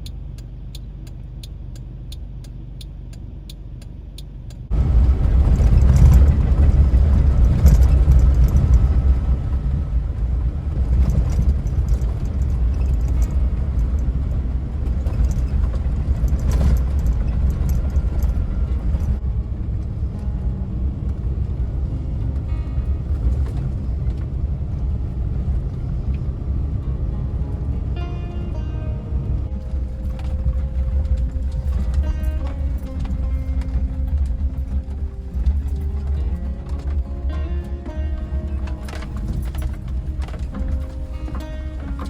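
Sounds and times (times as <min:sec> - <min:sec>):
engine and road noise rumble: 0:00.0 - 0:42.0
light regular ticking: 0:00.0 - 0:42.0.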